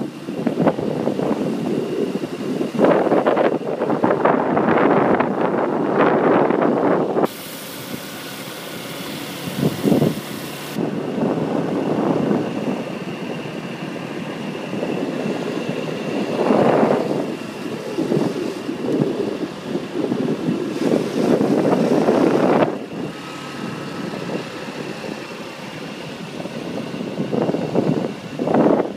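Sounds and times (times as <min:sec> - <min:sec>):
vehicle road noise: 0:00.0 - 0:28.9
wind buffeting microphone: 0:00.0 - 0:28.9.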